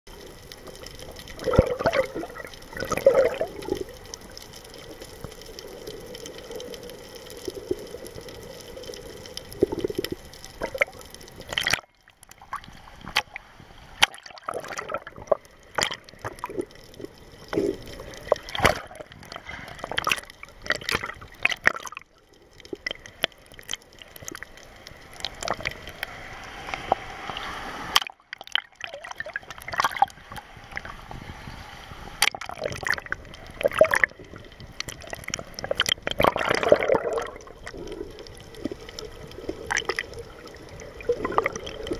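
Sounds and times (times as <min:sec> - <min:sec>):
underwater gurgling and sloshing: 0:00.1 - 0:41.9.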